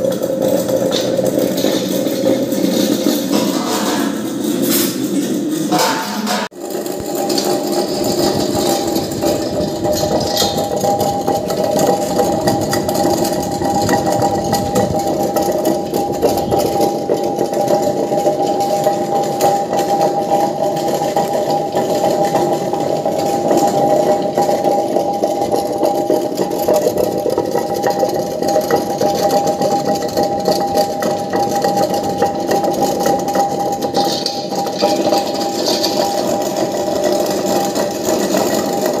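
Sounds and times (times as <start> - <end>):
churning rumble: 0.0 - 39.0.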